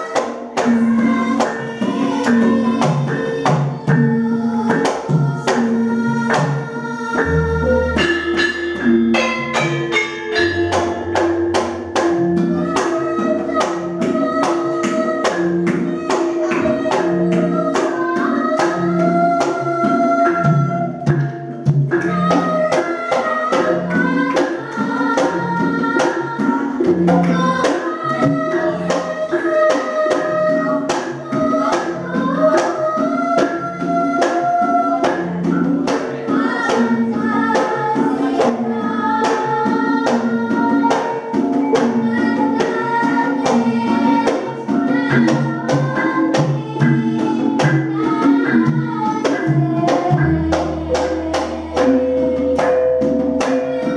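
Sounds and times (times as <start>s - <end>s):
girl singing into a microphone: 0.0s - 8.9s, 11.8s - 53.9s
gamelan playing: 0.0s - 53.9s
hand drum drumming: 0.0s - 53.9s.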